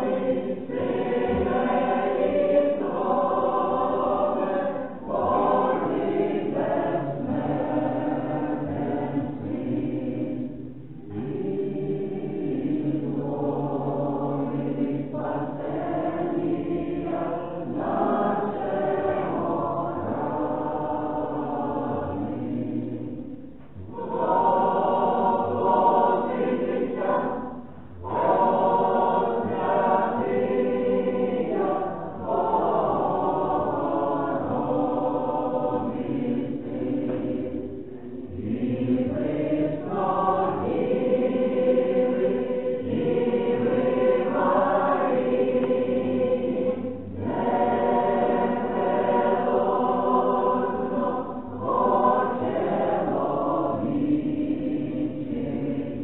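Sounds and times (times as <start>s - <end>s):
church choir chanting: 0.0s - 56.0s.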